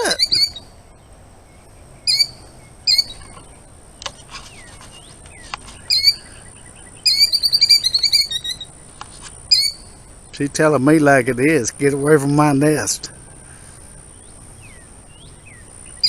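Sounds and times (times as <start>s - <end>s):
killdeer alarm calls: 0.0s - 1.1s, 1.8s - 10.8s, 12.8s - 16.0s.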